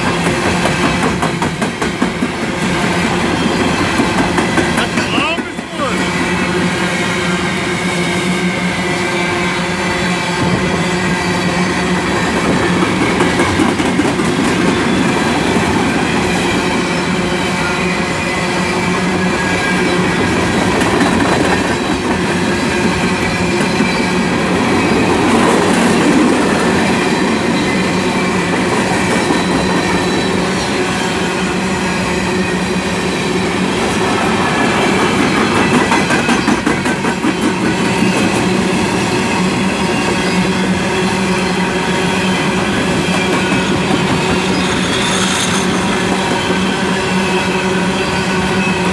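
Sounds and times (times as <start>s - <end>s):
freight train wheels rumbling on rail: 0.0s - 48.9s.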